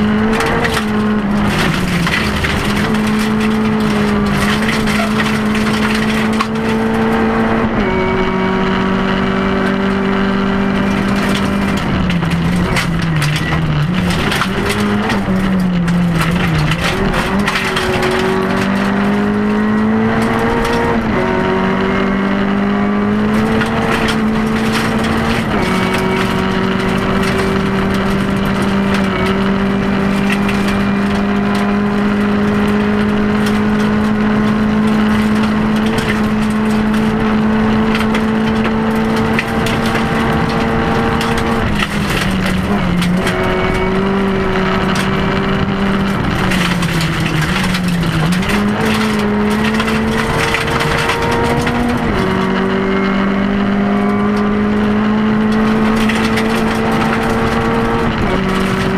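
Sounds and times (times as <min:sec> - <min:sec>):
gravel ticking against car: 0:00.0 - 0:07.6, 0:10.6 - 0:21.0, 0:23.2 - 0:58.9
rally car engine: 0:00.0 - 0:58.9.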